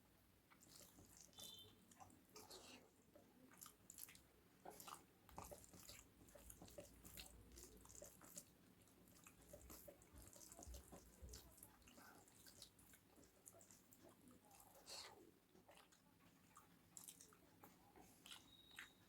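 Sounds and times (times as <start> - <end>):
person chewing and smacking: 0.5 - 19.0.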